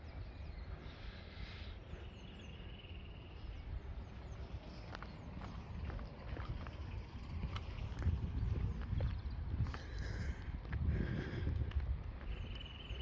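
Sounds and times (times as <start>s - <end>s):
small birds chirping: 0.0s - 13.0s
wind rumbling on microphone: 0.0s - 13.0s.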